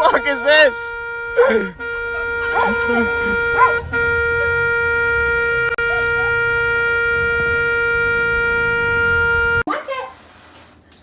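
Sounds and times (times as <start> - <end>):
steady horn-like tone: 0.0 - 9.7.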